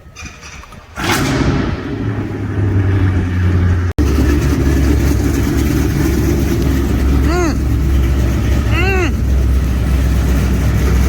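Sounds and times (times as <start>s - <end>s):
car engine running loud: 1.0s - 11.0s.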